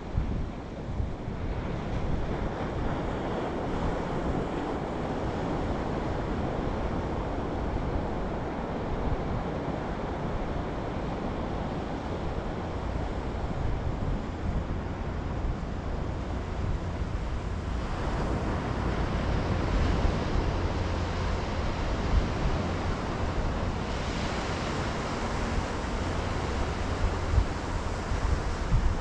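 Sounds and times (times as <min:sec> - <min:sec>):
sea surf on a beach: 0:00.0 - 0:29.0
wind noise on microphone: 0:00.0 - 0:29.0.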